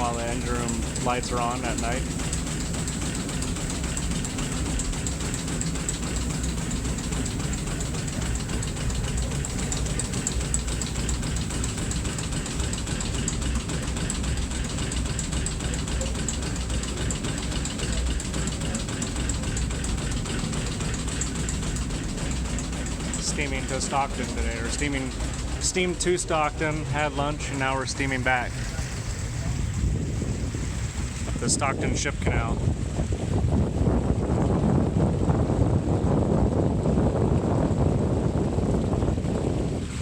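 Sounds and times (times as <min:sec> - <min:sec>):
fast mechanical clatter: 0:00.0 - 0:33.2
steam engine running: 0:00.0 - 0:36.3.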